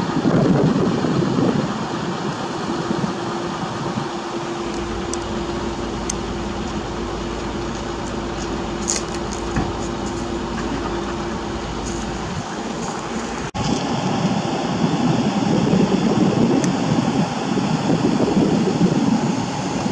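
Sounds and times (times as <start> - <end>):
low rumble: 0.0 - 19.9
machinery humming: 0.0 - 19.9.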